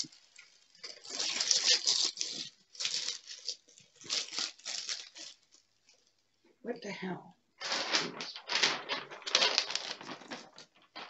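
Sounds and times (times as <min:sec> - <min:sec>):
plastic sheet crinkling: 0:00.0 - 0:06.2, 0:07.6 - 0:11.0.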